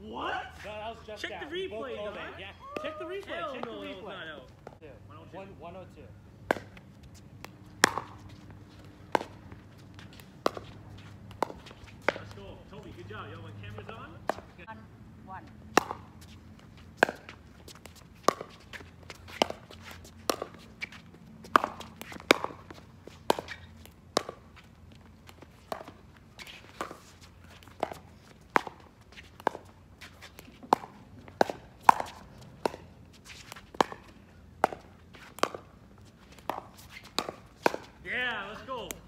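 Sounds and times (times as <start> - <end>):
paddles hitting plastic ball: 2.7 - 3.9, 6.4 - 14.6, 15.7 - 16.3, 16.9 - 20.8, 21.4 - 39.0.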